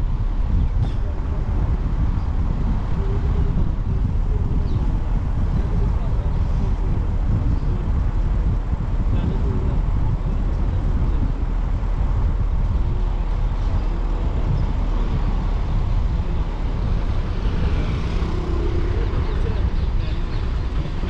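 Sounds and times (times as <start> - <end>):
road rumble: 0.0 - 21.0
wind buffeting microphone: 0.0 - 21.0.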